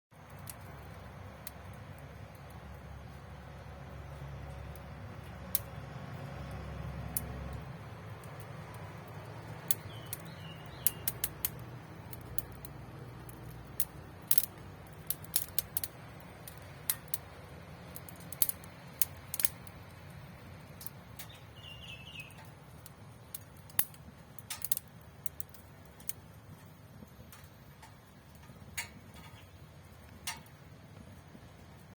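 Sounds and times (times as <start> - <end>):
wood fire crackling: 0.1 - 32.0
low steady rumble: 0.2 - 32.0.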